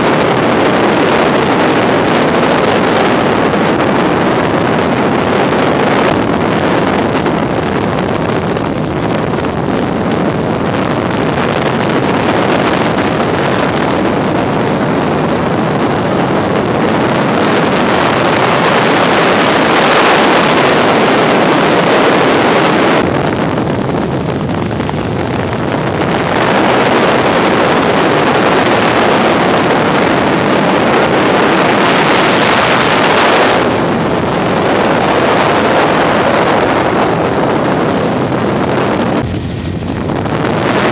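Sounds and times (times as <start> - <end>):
helicopter engine and rotor roar: 0.0 - 40.9.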